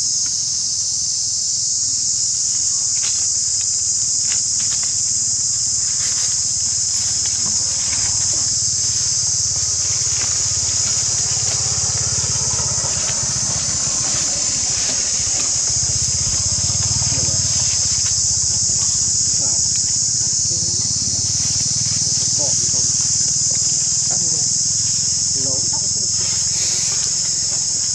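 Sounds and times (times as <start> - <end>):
insect chorus drone: 0.0 - 27.9
low steady murmur: 0.0 - 27.9.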